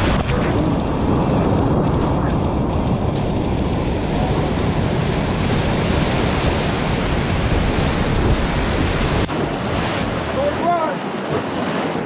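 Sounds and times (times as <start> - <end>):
wind buffeting microphone: 0.0 - 10.8
whitewater rapids rushing: 0.0 - 12.0.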